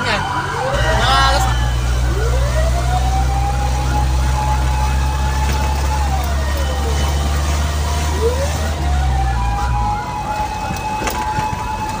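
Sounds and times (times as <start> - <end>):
diesel engine running: 0.0 - 12.0
fire truck siren wailing: 0.0 - 12.0
second siren yelping: 0.0 - 12.0.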